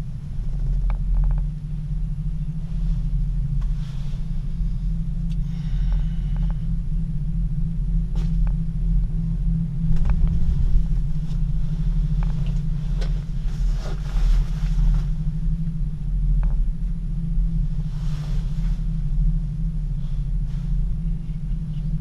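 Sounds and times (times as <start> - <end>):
gondola cabin low rumble: 0.0 - 22.0.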